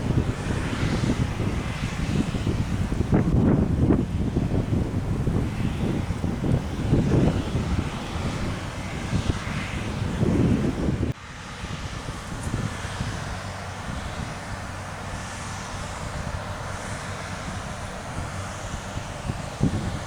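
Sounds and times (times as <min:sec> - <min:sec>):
combine harvester running: 0:00.0 - 0:20.0
wind rumbling on microphone: 0:00.0 - 0:20.0.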